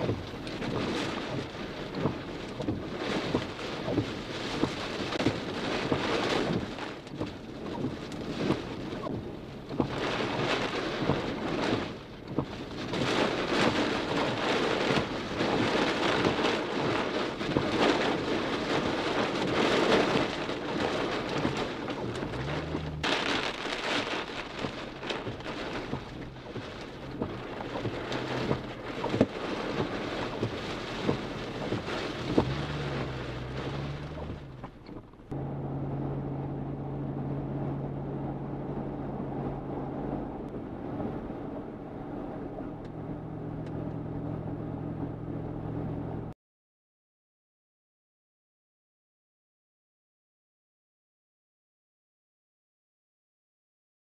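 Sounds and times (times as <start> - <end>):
heavy rain on car windshield: 0.0 - 46.3
car engine hum: 0.0 - 46.4.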